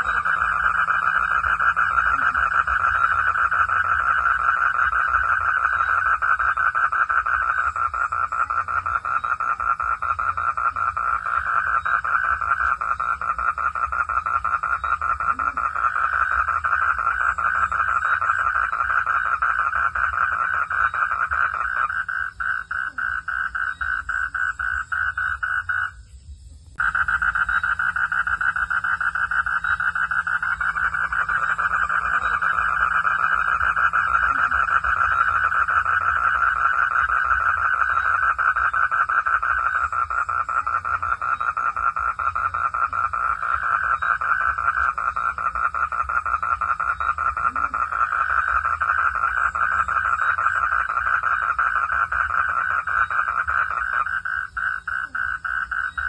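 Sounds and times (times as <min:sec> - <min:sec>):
frogs calling in pulsing chorus: 0:00.0 - 0:56.0.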